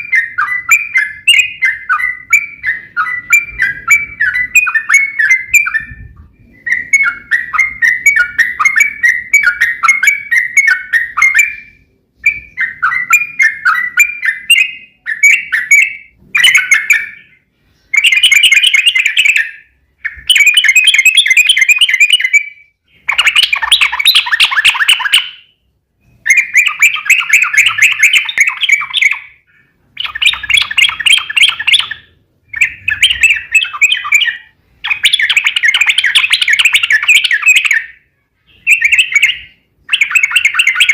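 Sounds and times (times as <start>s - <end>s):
bulbul chattering song: 0.0s - 40.9s.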